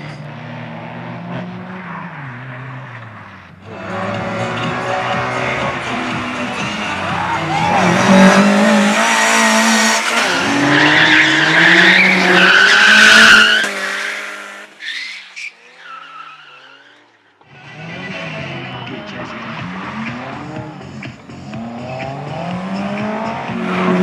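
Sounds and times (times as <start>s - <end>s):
car engine revving: 0.0s - 14.8s, 16.8s - 24.0s.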